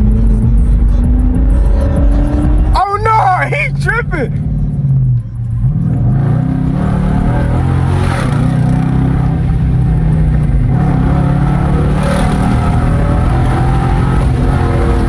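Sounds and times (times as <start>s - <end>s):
loud car engine running: 0.0s - 15.0s.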